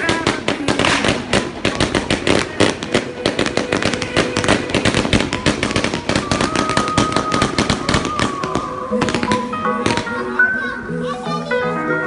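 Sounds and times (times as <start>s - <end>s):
fireworks bangs and crackles: 0.0s - 10.4s
music playing: 0.0s - 12.0s.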